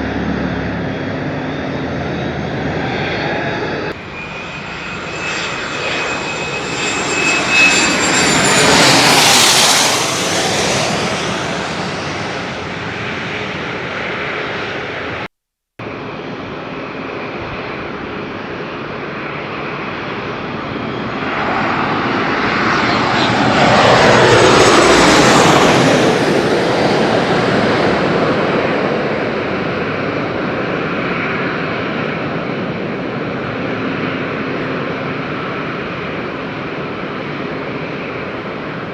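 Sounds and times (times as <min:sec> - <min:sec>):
high jet engine whine: 0:00.0 - 0:38.9
jet airliners passing: 0:00.0 - 0:38.9.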